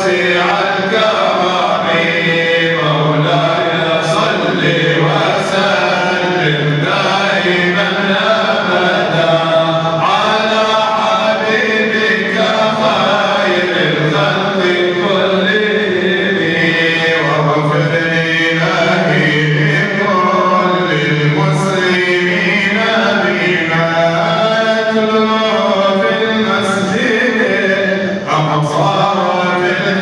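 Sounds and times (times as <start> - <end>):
men chanting devotional song: 0.0 - 30.0.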